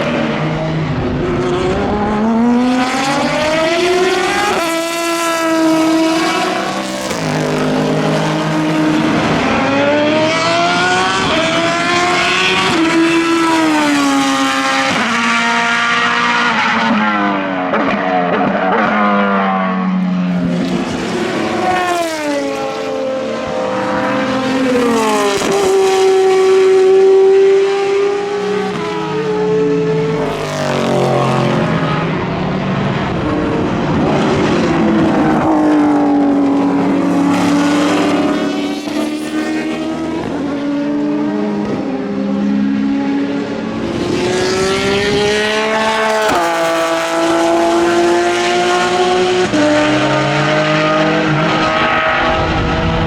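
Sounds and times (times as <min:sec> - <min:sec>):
racing car engines at high revs: 0:00.0 - 0:53.0.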